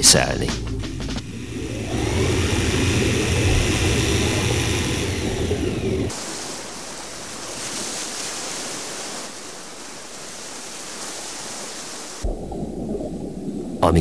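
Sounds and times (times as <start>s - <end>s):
sea rushing: 1.2s - 14.0s.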